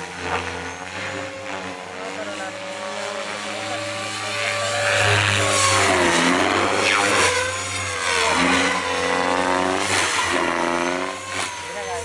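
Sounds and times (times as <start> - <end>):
model helicopter rotor whine: 0.0 - 12.0.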